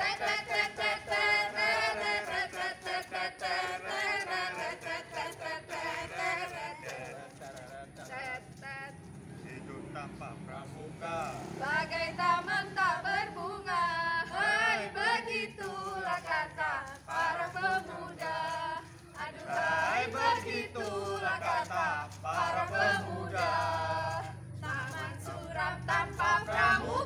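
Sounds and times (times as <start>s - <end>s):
group singing a cheer-song: 0.0s - 9.0s, 11.0s - 27.0s.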